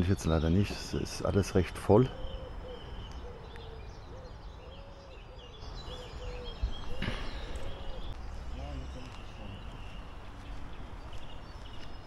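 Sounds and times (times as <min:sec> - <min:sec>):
low arched bird calls: 0:00.0 - 0:12.0
high bird chirps: 0:02.1 - 0:12.0.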